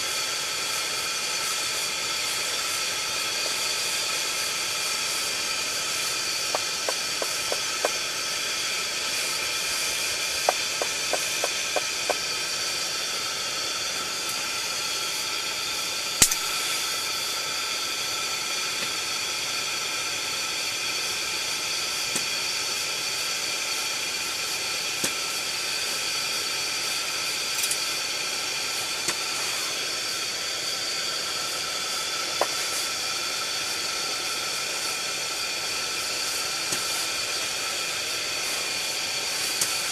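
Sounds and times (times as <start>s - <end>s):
heater burner hissing: 0.0s - 39.9s.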